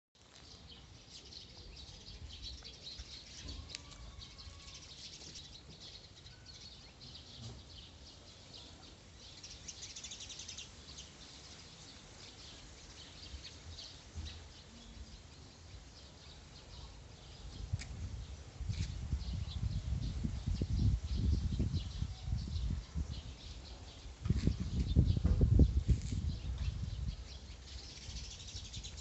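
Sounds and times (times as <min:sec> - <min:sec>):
small birds chirping: 0:00.2 - 0:29.0.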